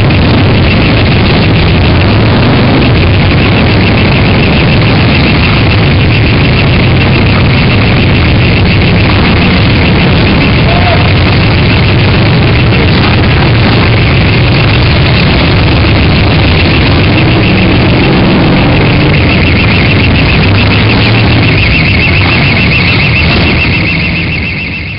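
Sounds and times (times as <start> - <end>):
motorcycle engines rumbling: 0.0 - 24.9
steady high tone: 0.0 - 24.9.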